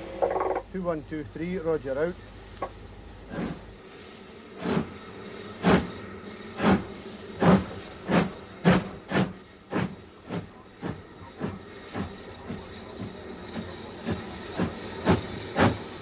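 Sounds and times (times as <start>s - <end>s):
steam hiss: 0.0s - 16.0s
steam locomotive exhaust chuffs: 0.0s - 16.0s.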